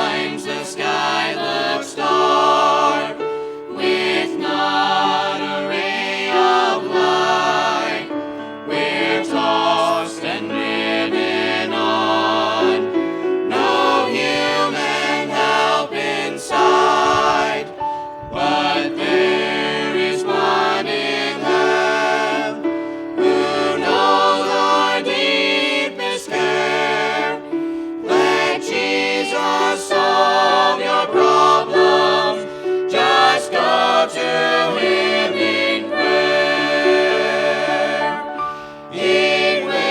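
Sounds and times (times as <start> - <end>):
voices singing in harmony: 0.0 - 39.9.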